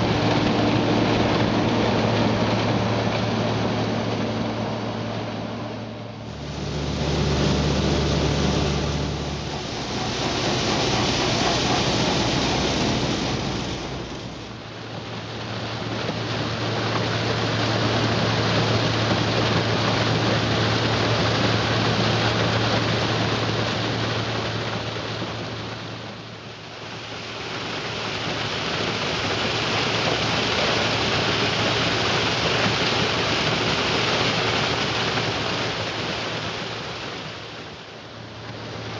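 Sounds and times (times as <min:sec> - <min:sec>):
low engine hum: 0:00.0 - 0:38.9.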